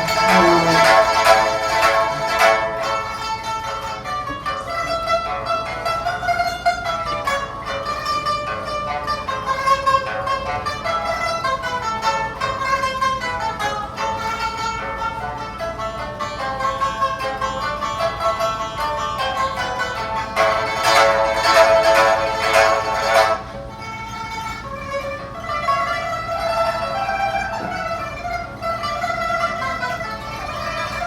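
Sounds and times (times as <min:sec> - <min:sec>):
plucked lute playing: 0:00.0 - 0:31.0.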